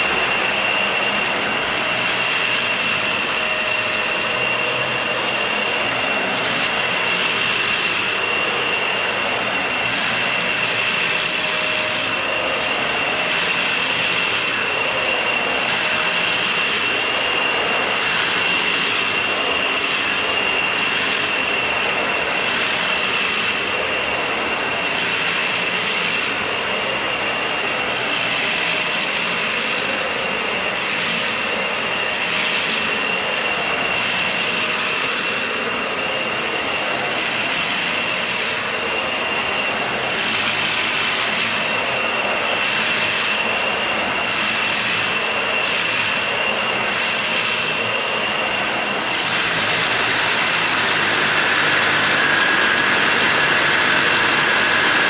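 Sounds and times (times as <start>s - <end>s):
vacuum cleaner running on rug: 0.0s - 55.0s.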